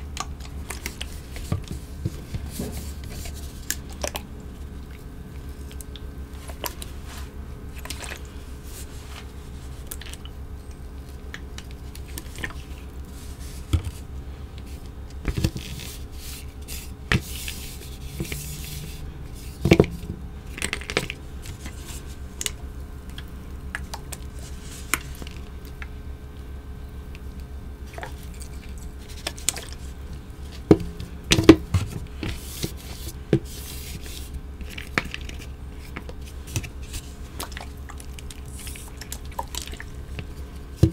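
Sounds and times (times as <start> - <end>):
wet chalk squishing and cracking: 0.0 - 26.4, 27.1 - 40.9
steady low hum: 0.0 - 40.9.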